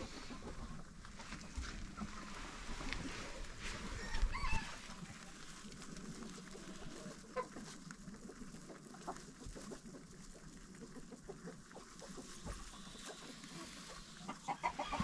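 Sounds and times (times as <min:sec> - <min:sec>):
chickens clucking and calling: 0:00.0 - 0:15.0.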